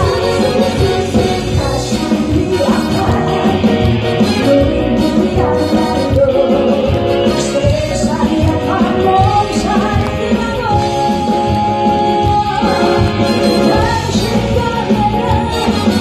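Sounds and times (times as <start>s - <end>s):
band accompaniment with steady beat: 0.0s - 16.0s
woman singing into a microphone: 0.0s - 16.0s.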